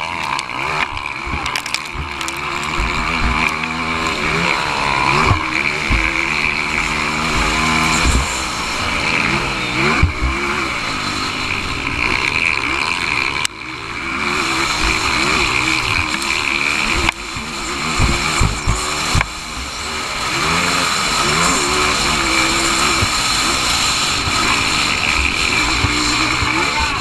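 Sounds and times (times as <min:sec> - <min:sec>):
motorcycle engines racing: 0:00.0 - 0:27.0.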